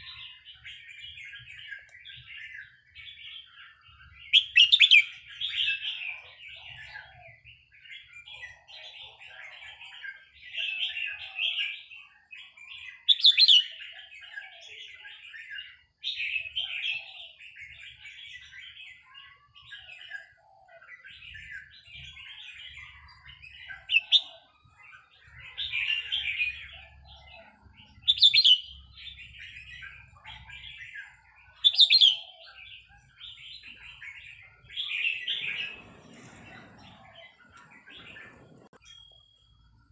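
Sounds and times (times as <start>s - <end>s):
bird chattering warbling song: 0.0s - 39.9s.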